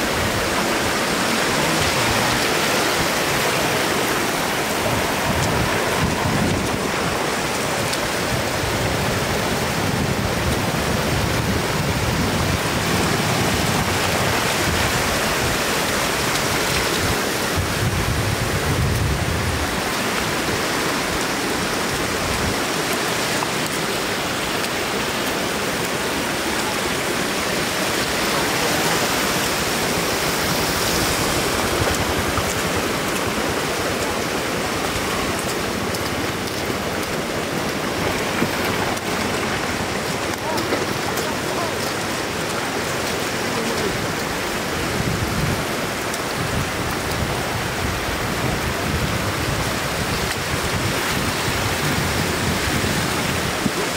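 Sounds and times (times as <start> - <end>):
floodwater rushing over road: 0.0 - 53.9.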